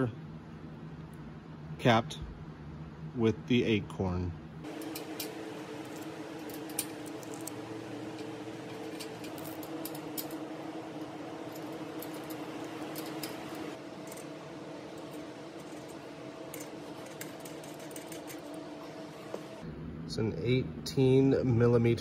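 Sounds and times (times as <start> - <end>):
steady multi-tone hum: 0.0 - 22.0.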